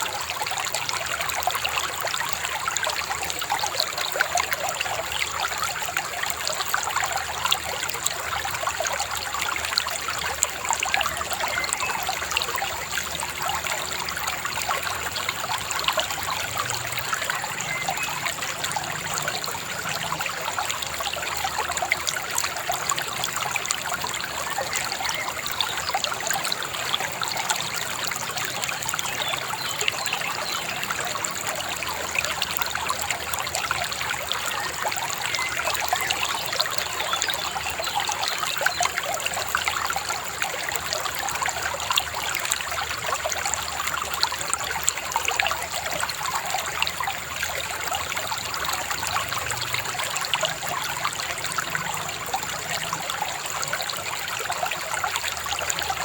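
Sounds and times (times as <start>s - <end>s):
shallow river babbling: 0.0s - 56.0s.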